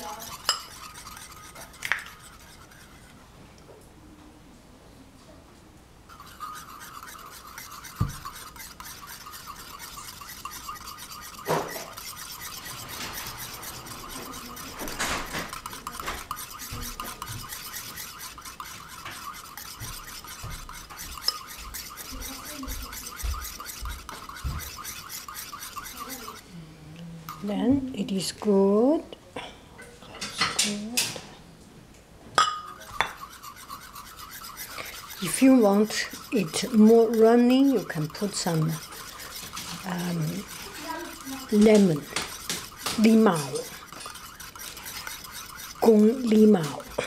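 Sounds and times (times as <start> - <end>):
wire whisk scraping a bowl: 0.0 - 3.2, 6.1 - 26.4, 32.7 - 47.0.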